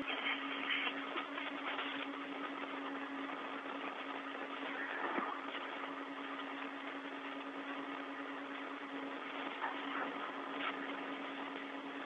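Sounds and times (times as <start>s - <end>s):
low hum: 0.0s - 12.0s
radio channel hiss: 0.0s - 12.0s.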